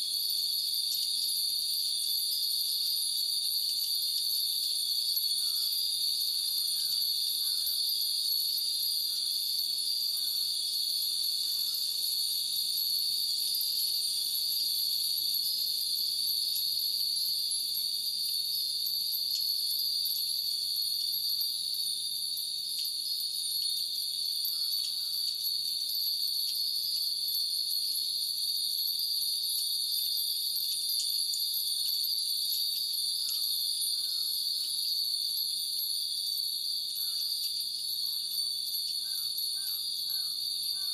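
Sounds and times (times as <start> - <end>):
cicadas chorus: 0.0 - 40.9
wind bells tinkling: 0.0 - 40.9.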